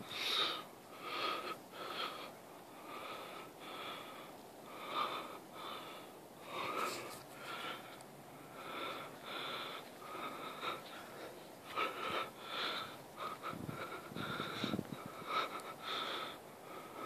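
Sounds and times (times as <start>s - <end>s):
person breathing: 0.0s - 17.0s.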